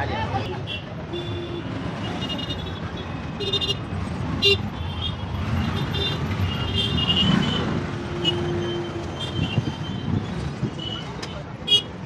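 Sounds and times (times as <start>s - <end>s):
traffic engines passing: 0.0s - 12.0s.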